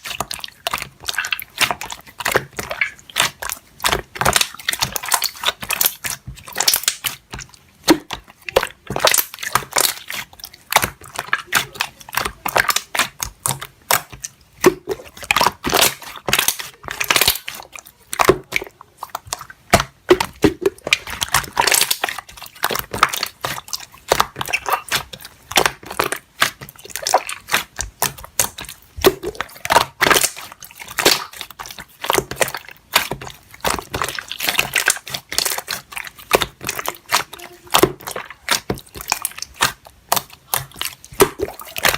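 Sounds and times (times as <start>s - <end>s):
slime kneaded by hand: 0.0s - 41.9s.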